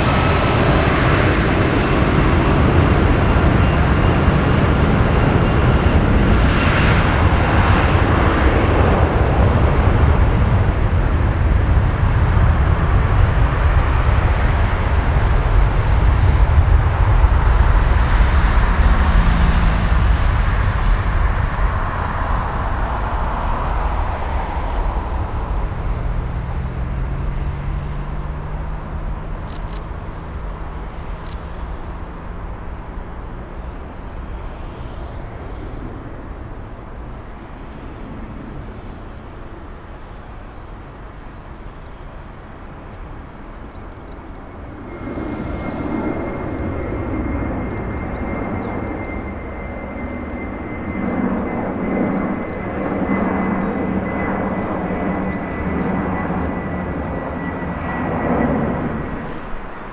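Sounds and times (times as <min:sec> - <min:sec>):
jet engine rumble and roar: 0:00.0 - 0:59.9.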